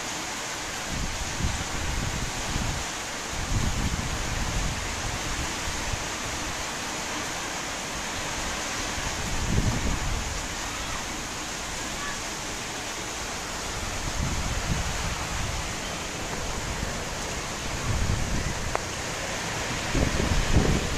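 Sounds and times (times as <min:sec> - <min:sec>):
heavy rain pouring: 0:00.0 - 0:20.9
wind gusts rumbling: 0:00.8 - 0:06.7, 0:07.8 - 0:20.9.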